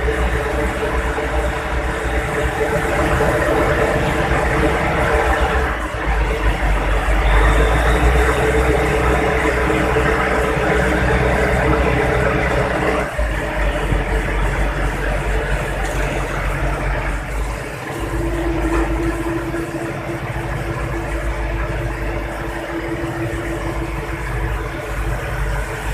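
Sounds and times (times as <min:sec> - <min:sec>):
boat engine droning: 0:00.0 - 0:25.9
steady humming tone: 0:00.0 - 0:25.9.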